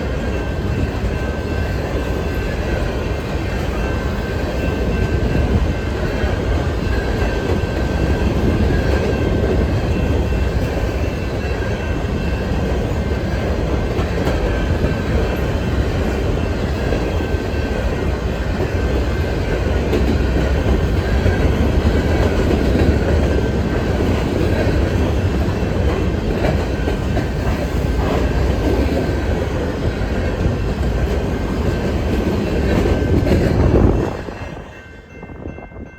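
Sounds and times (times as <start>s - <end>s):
train wheels rumbling over rail joints: 0.0s - 35.9s.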